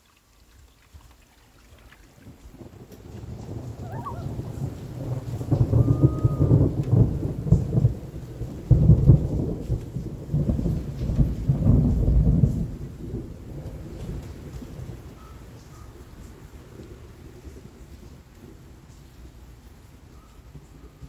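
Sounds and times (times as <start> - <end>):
thunder rumbling: 2.2 - 21.0.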